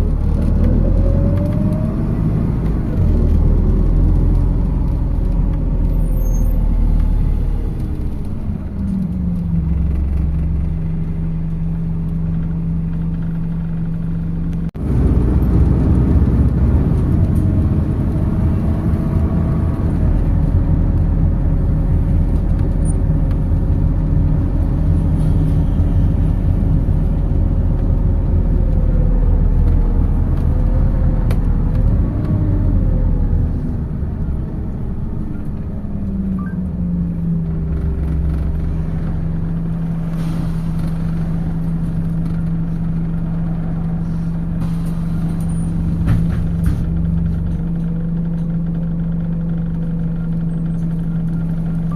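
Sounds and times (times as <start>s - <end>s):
bus driving noise: 0.0s - 51.9s
bus engine drone: 0.0s - 51.9s.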